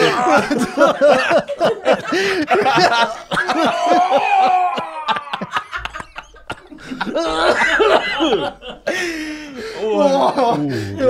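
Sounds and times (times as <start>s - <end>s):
men laughing hard: 0.0s - 11.0s.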